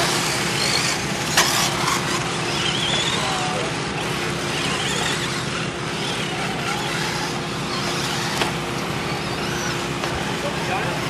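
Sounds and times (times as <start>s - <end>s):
toy truck electric motors whining: 0.0s - 11.0s.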